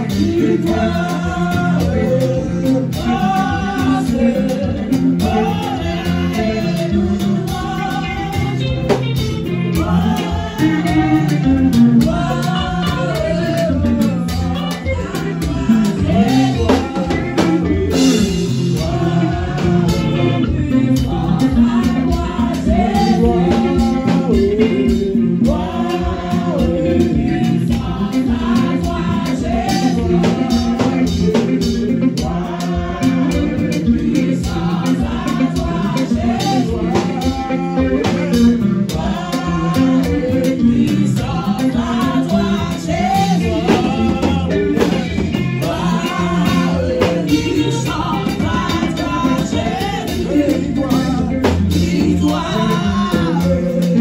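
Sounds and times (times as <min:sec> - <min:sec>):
congregation singing: 0:00.0 - 0:54.0
electric keyboard: 0:00.0 - 0:54.0
guitar: 0:00.0 - 0:54.0
steady beat: 0:00.0 - 0:54.0.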